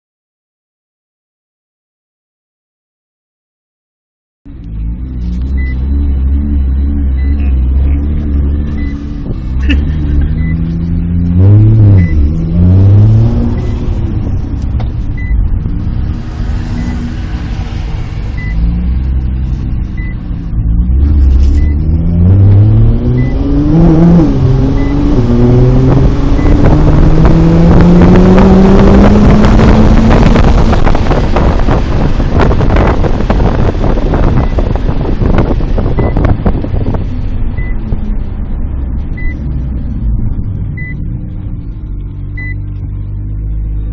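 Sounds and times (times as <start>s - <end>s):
sports car engine revving: 4.5s - 43.9s.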